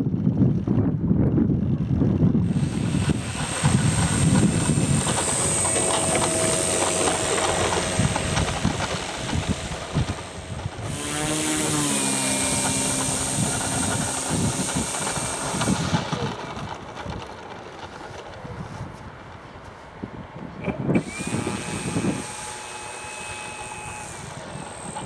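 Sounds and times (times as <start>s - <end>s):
model plane engine and propeller: 0.0s - 25.0s
wind rumbling on microphone: 0.0s - 25.0s.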